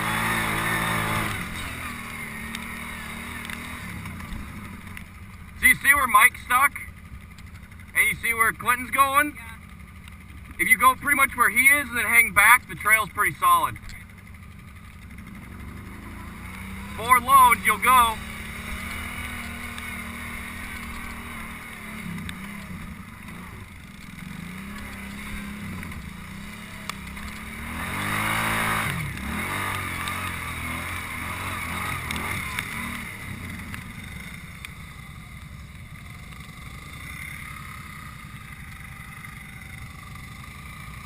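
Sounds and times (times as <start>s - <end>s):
atv engine revving: 0.0s - 41.0s
atv engines running: 0.0s - 41.0s.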